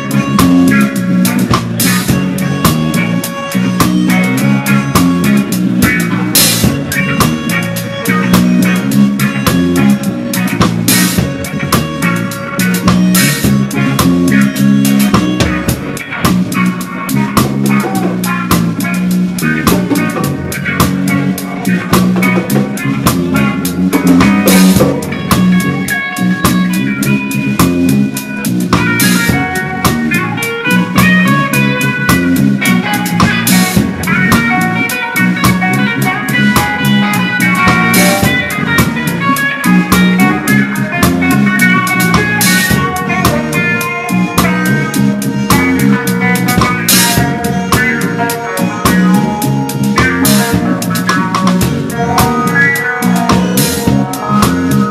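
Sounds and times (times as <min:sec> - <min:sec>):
reggae band playing live: 0:00.0 - 0:54.9.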